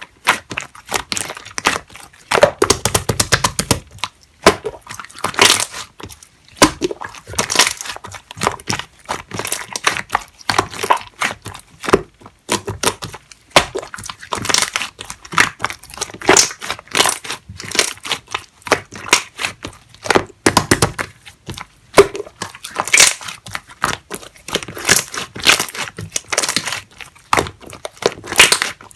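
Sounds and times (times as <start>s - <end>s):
slime squished by hand: 0.0s - 28.9s.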